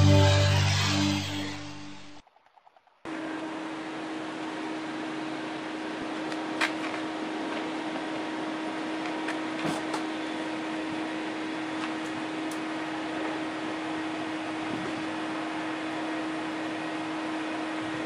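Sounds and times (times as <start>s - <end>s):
low mechanical hum: 3.0s - 18.0s.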